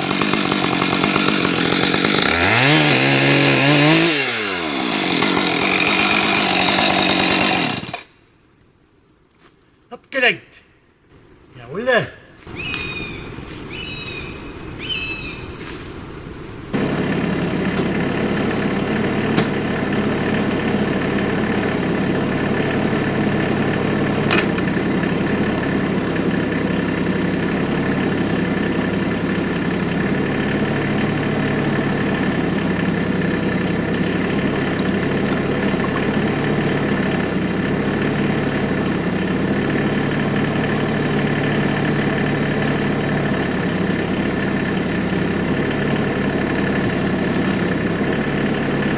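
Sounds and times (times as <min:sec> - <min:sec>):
tractor diesel engine running: 0:00.0 - 0:08.0, 0:11.2 - 0:48.9.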